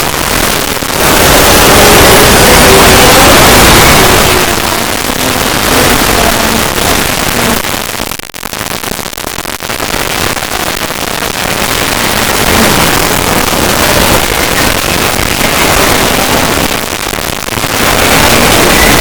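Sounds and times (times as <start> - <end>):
car engine exhaust crackling: 0.0 - 19.0.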